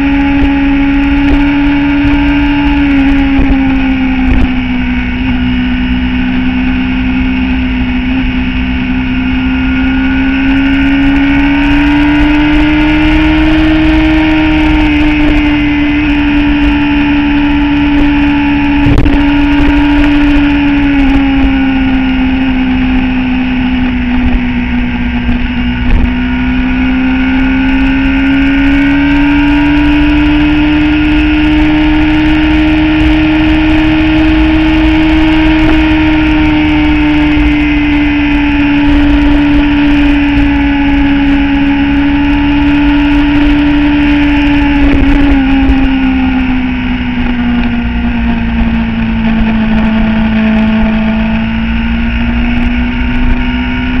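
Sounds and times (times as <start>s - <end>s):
motorcycle engine: 0.0s - 54.0s
wind rumble on microphone: 0.0s - 54.0s.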